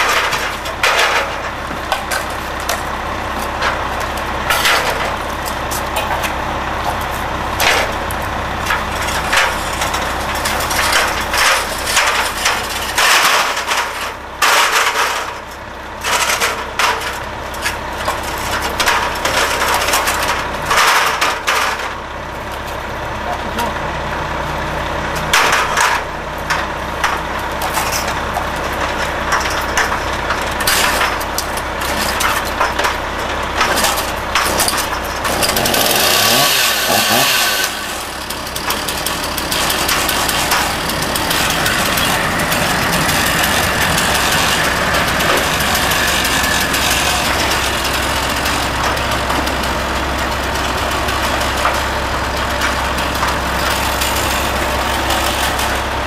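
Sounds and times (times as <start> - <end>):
metal ladders clanking: 0.0 - 22.0, 25.1 - 55.9
diesel engine idling: 0.0 - 56.0.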